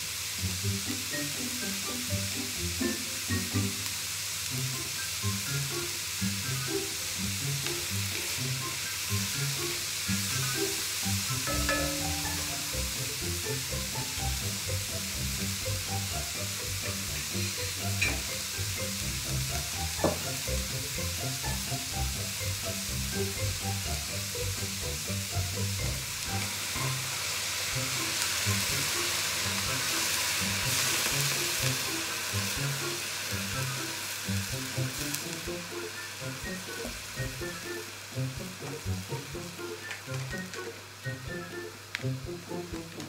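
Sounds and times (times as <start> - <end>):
vegetables sizzling in a wok: 0.0 - 43.0.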